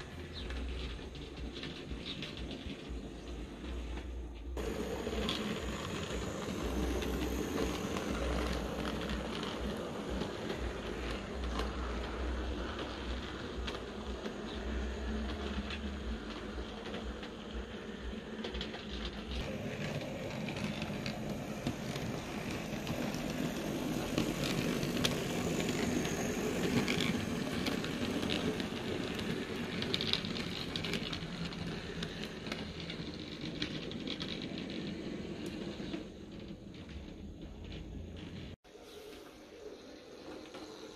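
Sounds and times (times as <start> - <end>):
wheels clicking over rail joints: 0.0 - 38.6
low hum: 0.0 - 40.9
model train whirring: 0.0 - 40.9.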